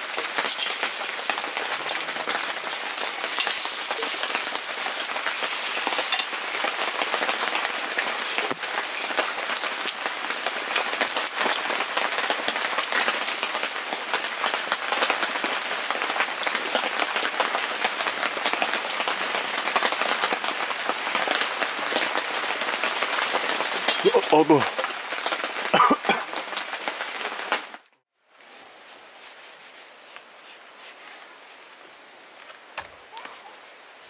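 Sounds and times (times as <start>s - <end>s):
heavy rain pattering: 0.0s - 28.0s.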